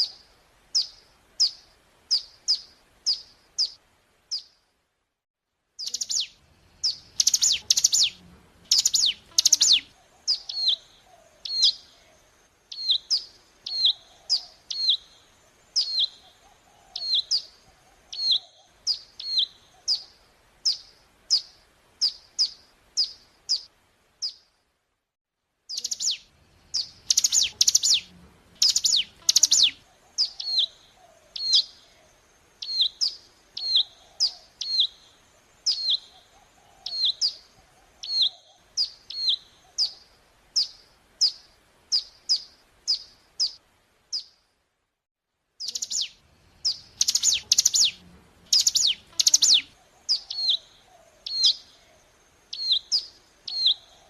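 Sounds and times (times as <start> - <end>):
bird chirping: 0.0 - 4.6, 5.8 - 24.6, 25.7 - 44.5, 45.6 - 54.0.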